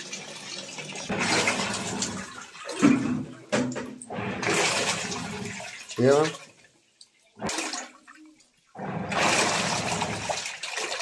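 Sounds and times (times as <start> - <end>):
water pouring into washing machine: 0.0 - 11.0
water splashing: 0.4 - 11.0.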